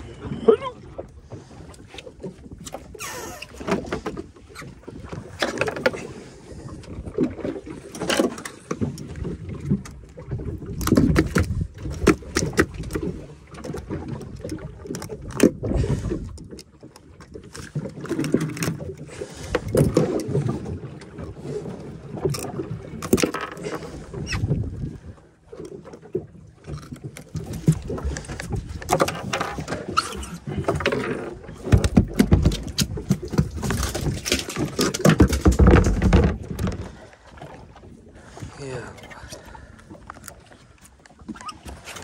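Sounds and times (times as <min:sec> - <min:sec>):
water rumbling against hull: 0:00.0 - 0:42.0.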